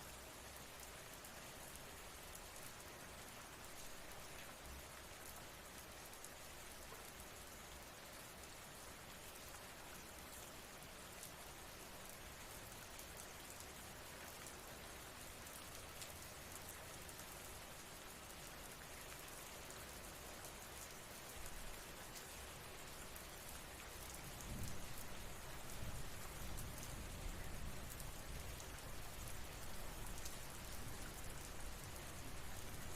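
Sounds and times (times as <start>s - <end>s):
steady rain hiss: 0.0s - 32.9s.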